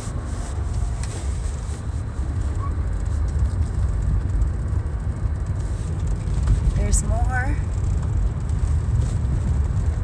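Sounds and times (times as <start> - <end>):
low rumble of car traffic: 0.0 - 10.0.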